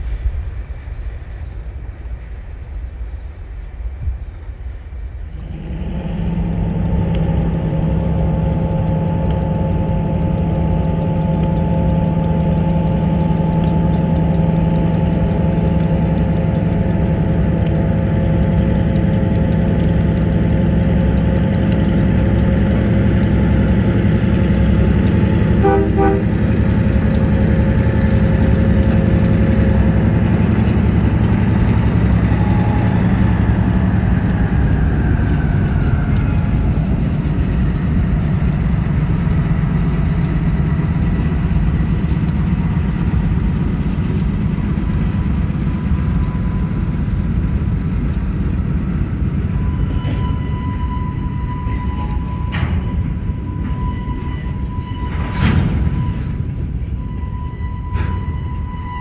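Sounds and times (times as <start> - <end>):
diesel locomotive engine humming: 0.0 - 59.0
freight train rumbling: 0.0 - 59.0.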